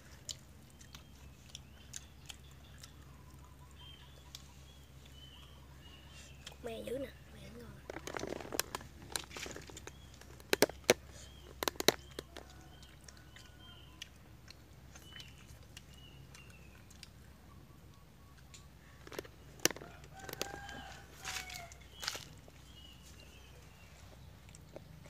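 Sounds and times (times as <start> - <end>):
birds chirping faintly: 0.0 - 25.0.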